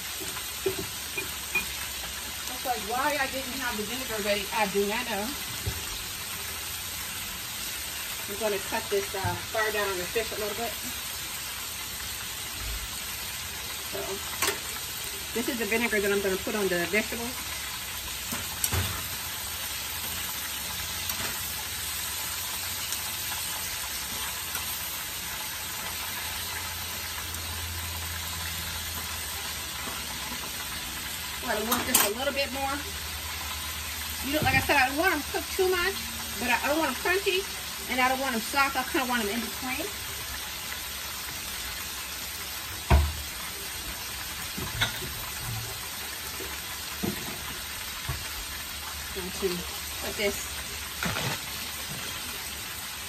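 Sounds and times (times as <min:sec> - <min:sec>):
food frying in hot oil: 0:00.0 - 0:53.0.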